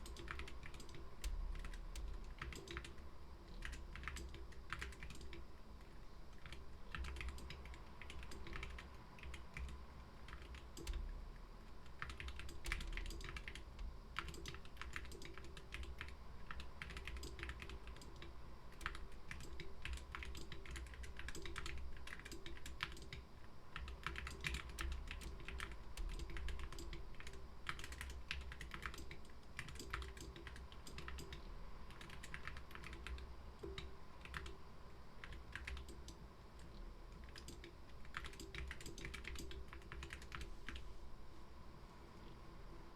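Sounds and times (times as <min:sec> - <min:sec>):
mechanical keyboard typing: 0:00.0 - 0:05.5, 0:06.3 - 0:11.2, 0:11.8 - 0:34.6, 0:35.2 - 0:40.9.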